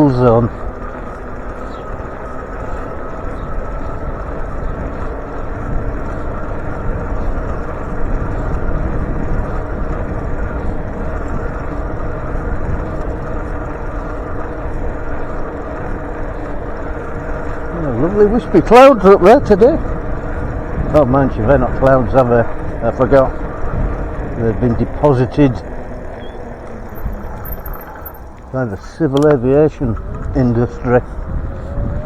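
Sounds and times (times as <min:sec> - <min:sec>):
car traffic passing: 0:00.0 - 0:32.0
wind and road noise: 0:00.0 - 0:32.0.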